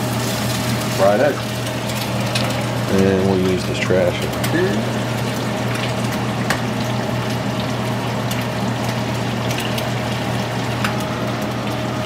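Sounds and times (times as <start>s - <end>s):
eggs sizzling in a skillet: 0.0s - 12.0s
exhaust fan hum: 0.0s - 12.0s.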